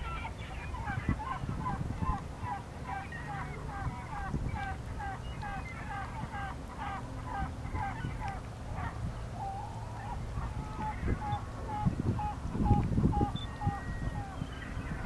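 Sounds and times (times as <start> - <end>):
gulls calling: 0.0 - 15.0
wind rumble on microphone: 0.0 - 15.0.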